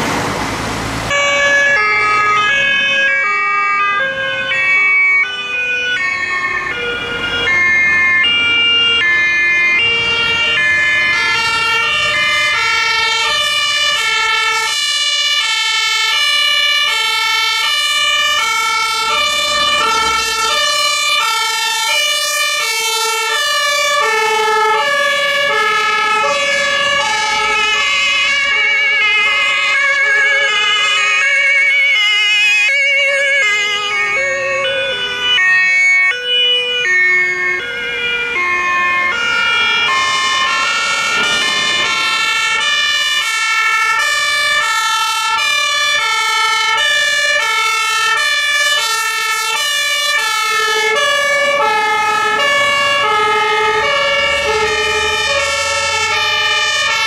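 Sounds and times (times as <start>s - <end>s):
two-tone emergency sirens: 0.0s - 57.0s
vehicle passing: 0.0s - 57.0s.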